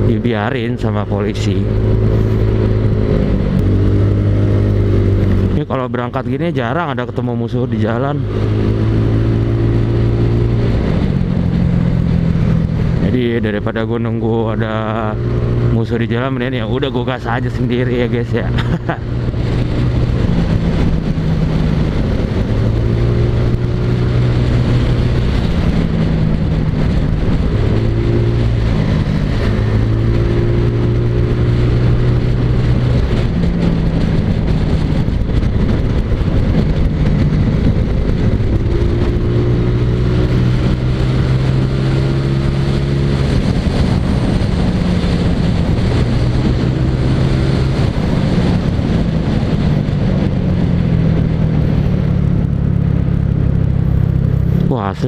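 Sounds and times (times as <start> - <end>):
wind rushing: 0.0 - 5.6, 14.6 - 55.0.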